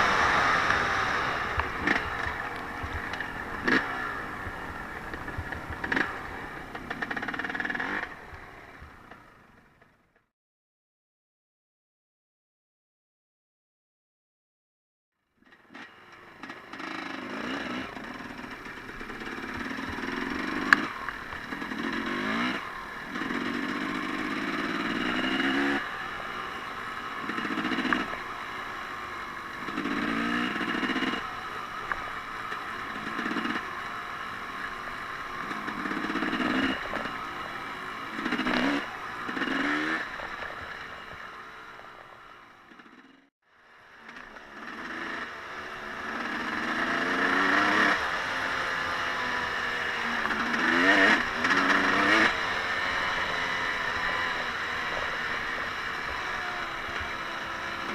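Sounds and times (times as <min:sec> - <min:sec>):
off-road vehicle engine revving: 0:00.0 - 0:08.5, 0:15.5 - 0:43.2, 0:44.0 - 0:57.9.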